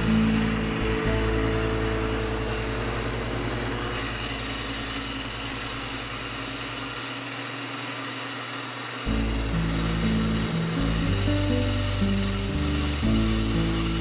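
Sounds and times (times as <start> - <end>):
hiss of wood cutting: 0.0 - 14.0
wood lathe motor hum: 0.0 - 14.0.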